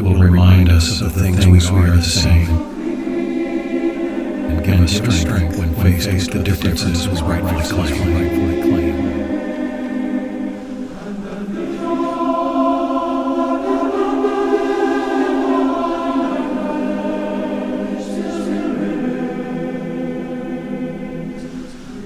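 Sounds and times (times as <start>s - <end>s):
choir singing held chords: 0.0s - 22.0s.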